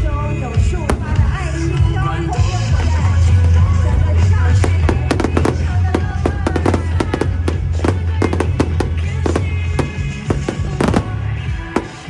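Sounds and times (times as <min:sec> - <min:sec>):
fireworks bangs and crackles: 0:00.8 - 0:02.1, 0:02.7 - 0:12.0.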